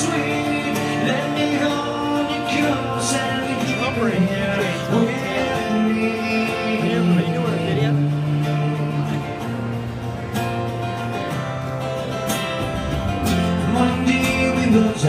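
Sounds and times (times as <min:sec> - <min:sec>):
acoustic guitar strumming: 0:00.0 - 0:15.0
electric guitar playing: 0:00.0 - 0:15.0.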